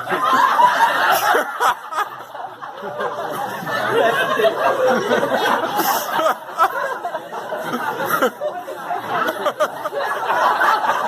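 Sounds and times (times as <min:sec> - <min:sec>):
indistinct talk: 0:00.0 - 0:11.0
people laughing: 0:00.0 - 0:11.0.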